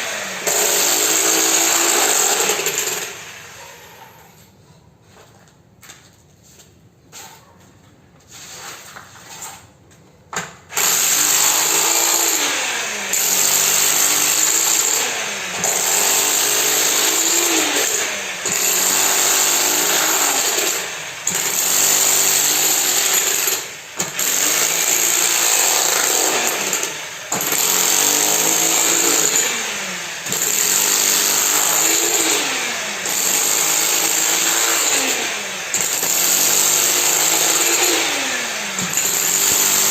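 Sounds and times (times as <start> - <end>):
power tool motor running: 0.0 - 3.9, 10.8 - 39.9.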